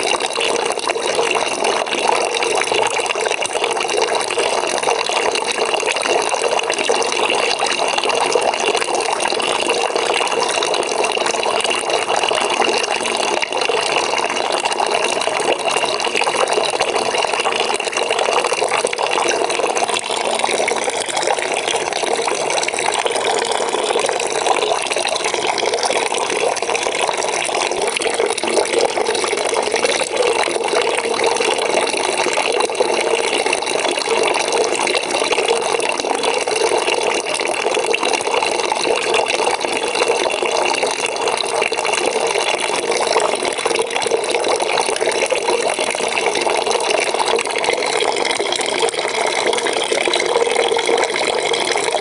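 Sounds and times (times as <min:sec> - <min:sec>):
tap water filling a bucket: 0:00.0 - 0:52.0.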